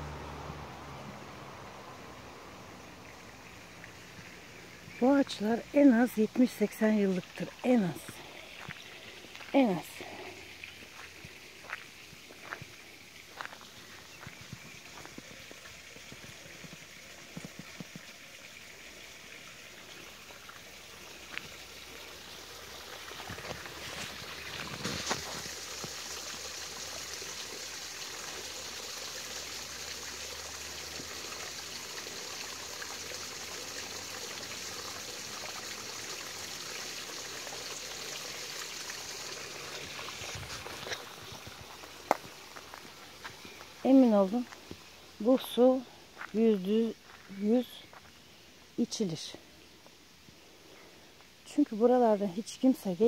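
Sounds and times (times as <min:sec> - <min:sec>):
spring water running: 0:02.7 - 0:47.2.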